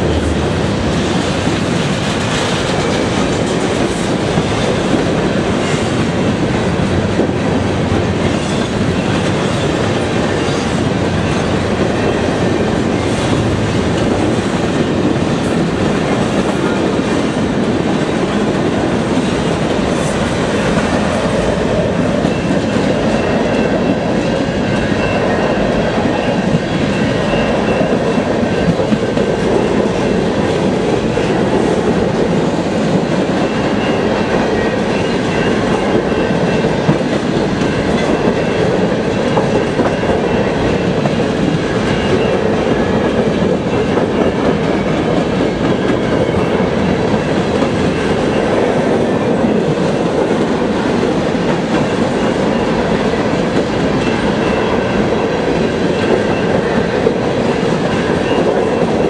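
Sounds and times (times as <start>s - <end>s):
steel wheels rumbling over rails: 0.0s - 59.0s.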